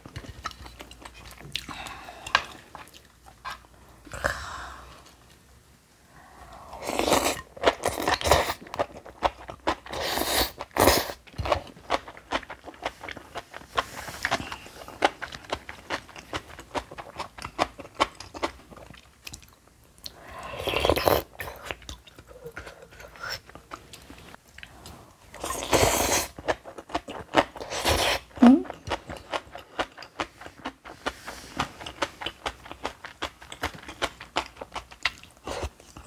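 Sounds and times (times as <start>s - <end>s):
person chewing crunchy food: 6.8s - 36.0s.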